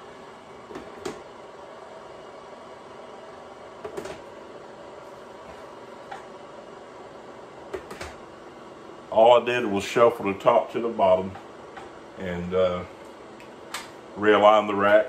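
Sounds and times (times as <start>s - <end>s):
dehydrator hum: 0.0s - 15.0s.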